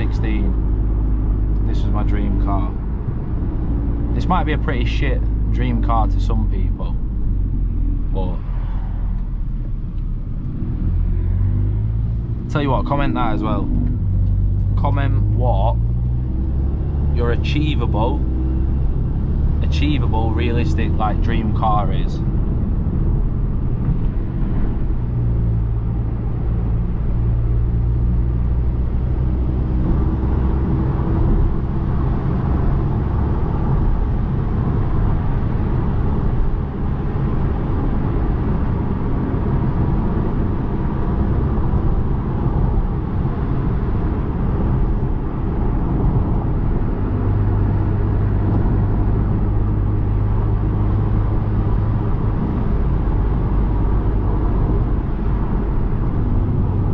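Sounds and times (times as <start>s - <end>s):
car engine droning while driving: 0.0s - 56.9s
road noise: 0.0s - 56.9s.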